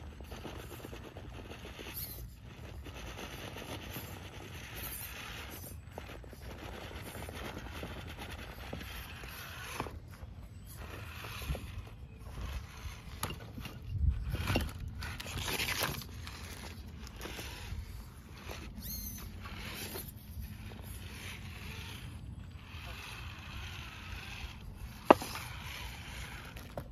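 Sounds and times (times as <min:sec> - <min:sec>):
electric drivetrain whirring: 0:00.0 - 0:26.9
tires scraping and knocking on stone: 0:00.1 - 0:26.9.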